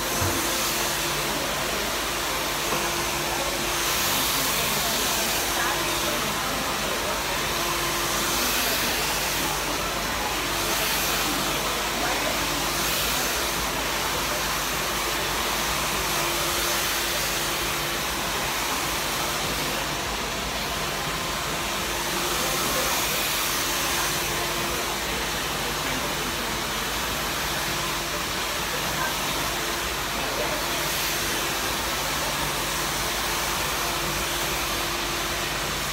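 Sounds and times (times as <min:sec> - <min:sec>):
hair dryer running: 0:00.0 - 0:35.9.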